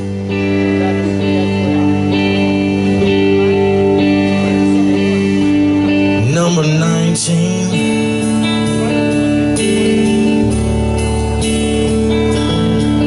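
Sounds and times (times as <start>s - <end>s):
electric guitar chords: 0.0s - 13.0s
held low bass note: 0.0s - 13.0s.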